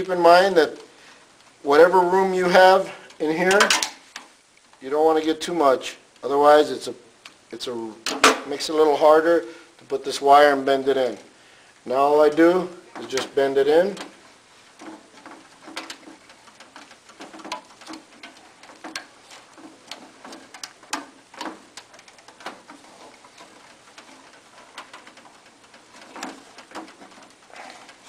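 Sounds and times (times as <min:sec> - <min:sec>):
wires clicking against metal box: 0:00.0 - 0:05.5, 0:07.2 - 0:28.0.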